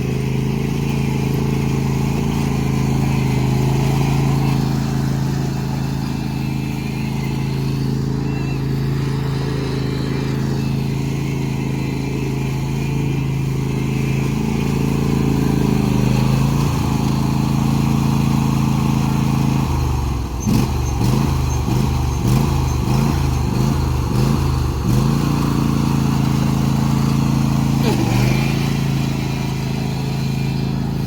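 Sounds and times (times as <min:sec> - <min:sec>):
lawn tractor engine running: 0:00.0 - 0:31.0.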